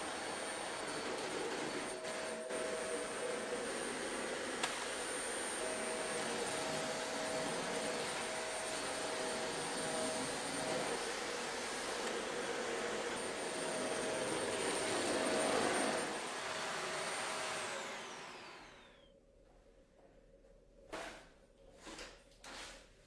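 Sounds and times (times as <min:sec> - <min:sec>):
vacuum cleaner running: 0:00.0 - 0:19.1.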